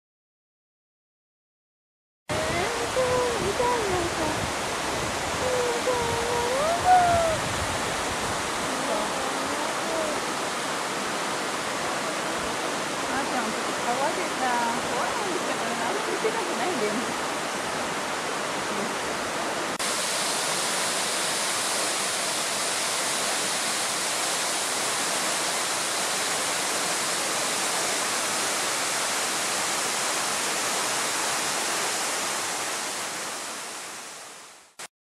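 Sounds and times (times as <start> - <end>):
river flowing over rocks: 2.3 - 34.8
waterfall rushing: 2.3 - 34.8.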